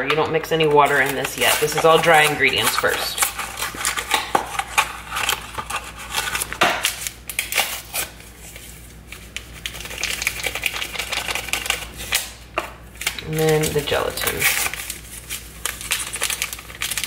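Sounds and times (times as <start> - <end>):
powder packet rustling: 0.5 - 17.0
cardboard packaging crinkling and tearing: 0.7 - 17.0.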